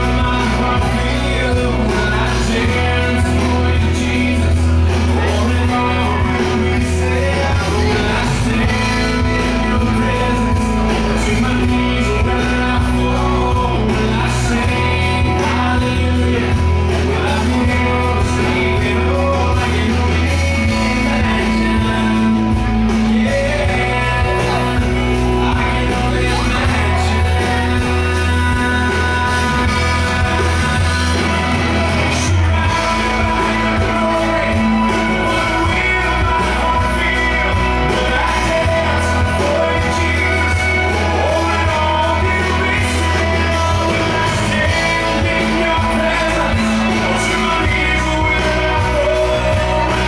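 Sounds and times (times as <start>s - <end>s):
live rock band playing: 0.0s - 50.0s
person singing: 0.0s - 50.0s.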